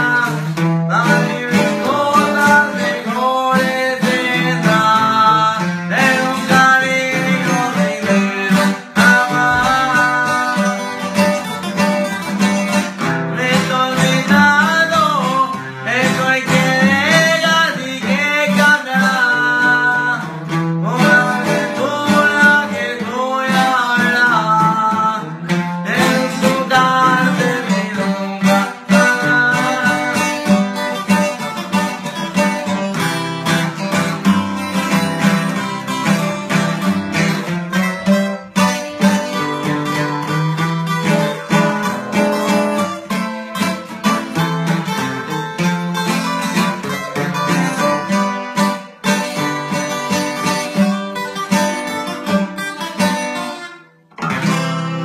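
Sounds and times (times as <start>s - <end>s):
man singing: 0.0s - 45.3s
acoustic guitars strummed and picked: 0.0s - 55.0s.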